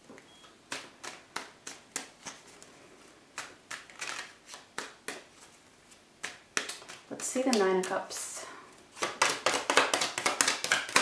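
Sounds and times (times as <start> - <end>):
cards being shuffled: 0.1 - 8.3, 8.9 - 11.0.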